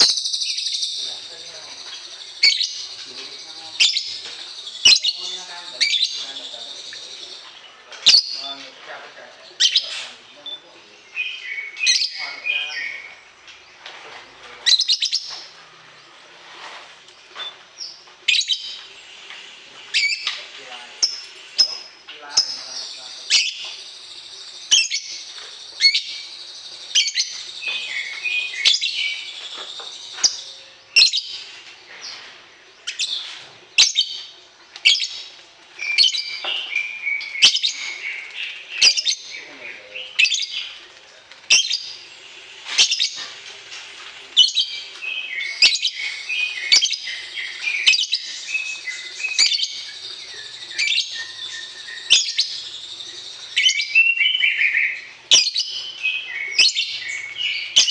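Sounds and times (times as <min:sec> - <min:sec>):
songbird chirping and trilling: 0:00.0 - 0:57.9.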